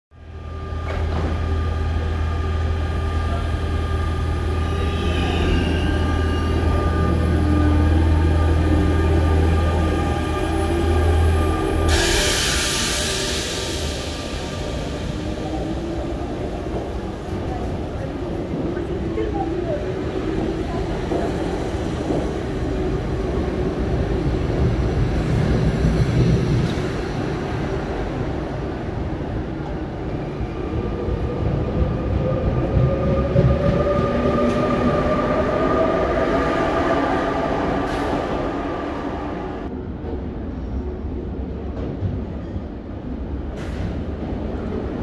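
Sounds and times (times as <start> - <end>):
electric train hum: 0.2 - 45.0.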